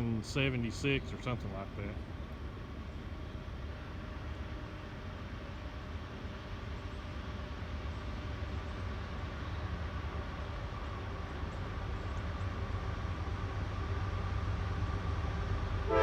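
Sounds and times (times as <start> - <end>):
diesel locomotives rumbling: 0.0 - 16.0.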